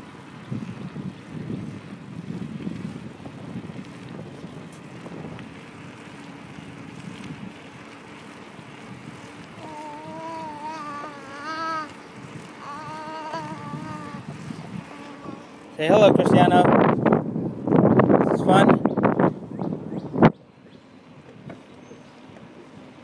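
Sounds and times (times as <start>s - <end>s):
wind buffeting microphone: 0.0s - 20.5s
wavering hum: 0.0s - 23.0s.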